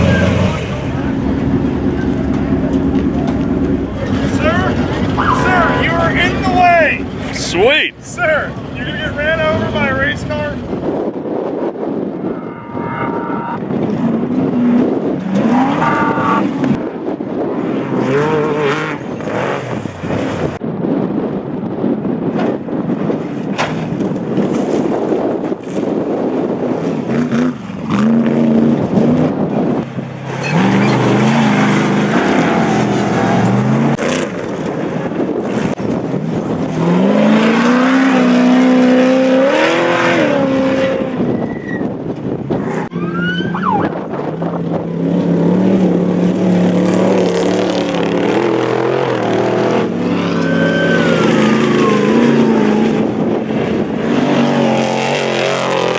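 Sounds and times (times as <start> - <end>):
race vehicle engines revving: 0.0 - 20.6, 22.5 - 55.9.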